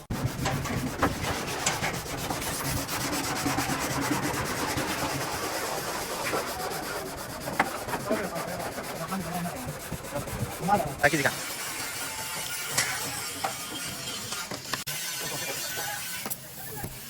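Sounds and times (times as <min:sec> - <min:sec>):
sanding metal bodywork: 0:00.0 - 0:17.0.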